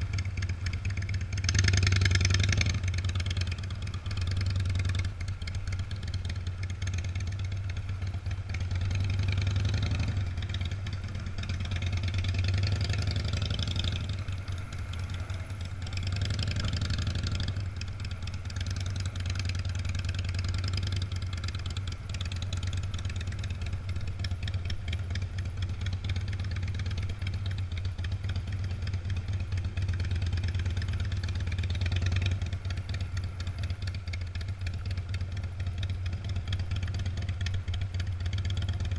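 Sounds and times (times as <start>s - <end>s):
car and motorcycle engines passing: 0.0s - 38.9s.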